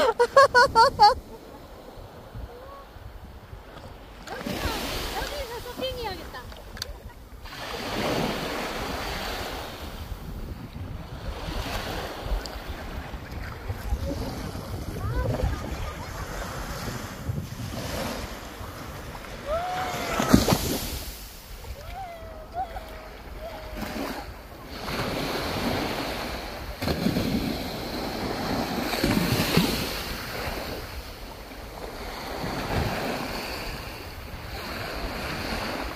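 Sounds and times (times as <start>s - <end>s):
small waves washing in: 0.0s - 35.9s
wind buffeting microphone: 0.0s - 35.9s.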